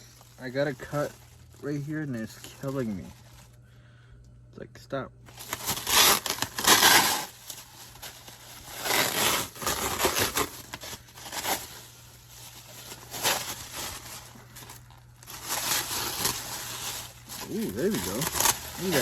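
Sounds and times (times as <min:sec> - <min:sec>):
packaging tearing and crinkling: 0:00.0 - 0:03.6, 0:05.3 - 0:19.0.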